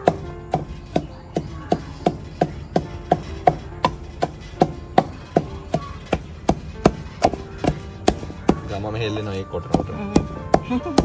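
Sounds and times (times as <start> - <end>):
wooden pestle pounding in mortar: 0.0 - 11.0.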